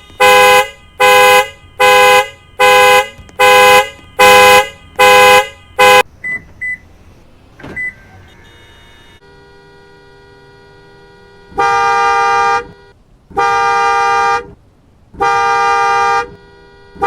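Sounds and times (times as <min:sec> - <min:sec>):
car horn honking: 0:00.0 - 0:14.6, 0:15.2 - 0:17.0.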